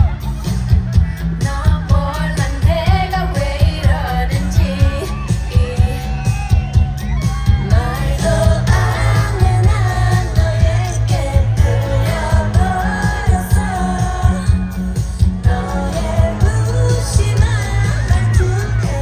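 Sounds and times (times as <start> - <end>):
pop song over sound system: 0.0 - 19.0.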